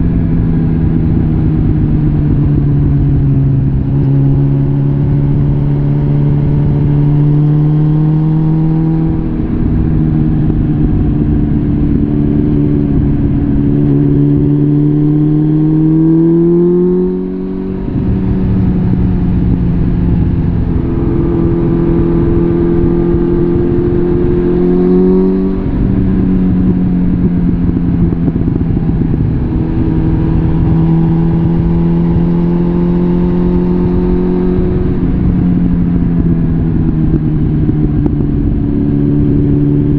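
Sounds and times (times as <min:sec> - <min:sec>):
motorcycle engine under throttle: 0:00.0 - 0:39.9.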